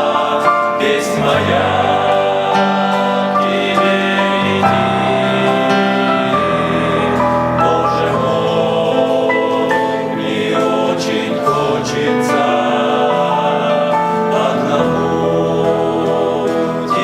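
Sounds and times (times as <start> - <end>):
men's choir singing a hymn: 0.0 - 17.0.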